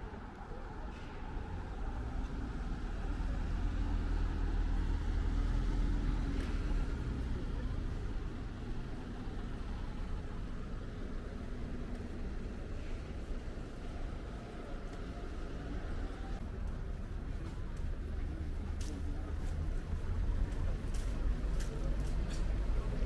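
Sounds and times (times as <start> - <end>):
general traffic noise: 0.0 - 23.0.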